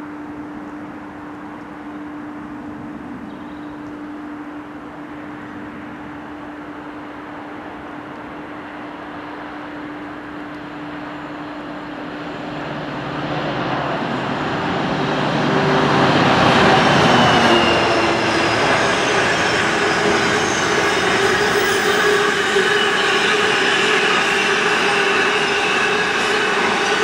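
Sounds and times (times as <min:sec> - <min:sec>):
diesel locomotive engine: 0:00.0 - 0:27.0.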